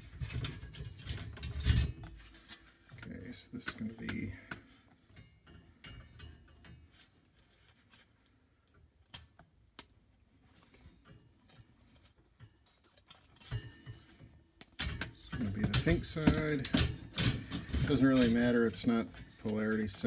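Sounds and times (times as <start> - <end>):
heater parts clicking and rattling: 0.0 - 9.5, 10.6 - 20.0.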